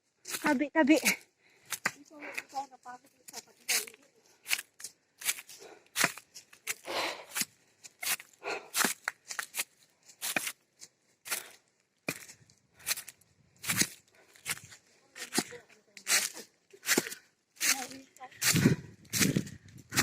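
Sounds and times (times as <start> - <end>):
footsteps crunching on gravel: 3.4 - 20.0.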